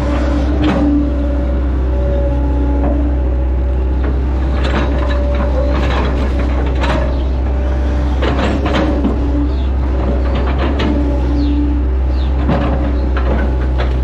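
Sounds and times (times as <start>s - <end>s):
excavator diesel engine running: 0.0s - 14.0s
hydraulic whine: 0.0s - 14.0s.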